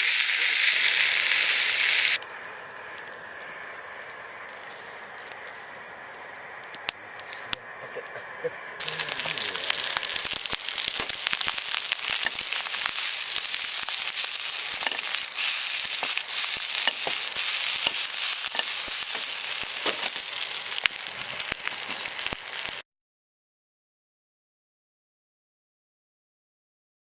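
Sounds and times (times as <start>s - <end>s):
bonfire crackling and popping: 0.0s - 22.8s
steady high hiss: 0.0s - 22.8s.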